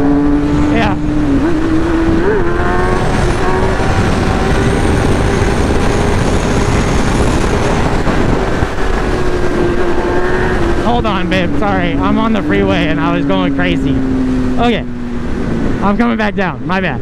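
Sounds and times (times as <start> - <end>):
motorcycle engine running: 0.0 - 16.2
rush of wind noise: 0.0 - 17.0.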